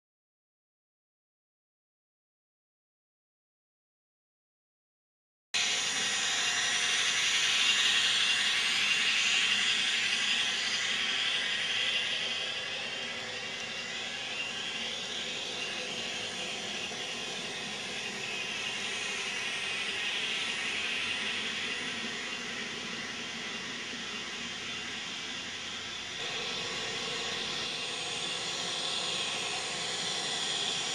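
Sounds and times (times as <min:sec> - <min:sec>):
model train wheels whirring: 0:05.6 - 0:30.9.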